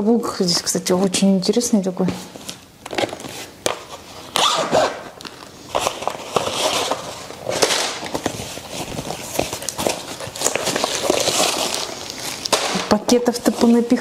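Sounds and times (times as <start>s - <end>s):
plastic packaging crinkling: 2.2s - 14.0s.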